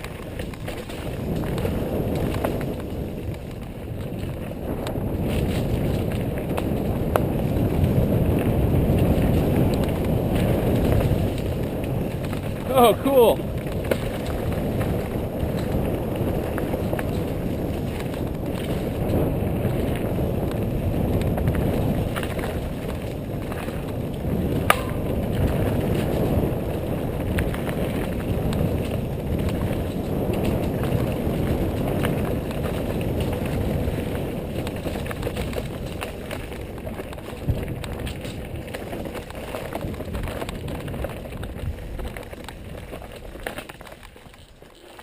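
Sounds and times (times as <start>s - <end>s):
bike tyres rumbling on dirt: 0.0s - 45.0s.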